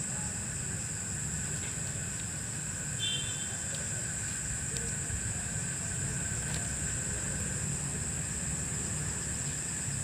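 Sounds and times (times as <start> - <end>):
insects chorus: 0.0 - 10.0.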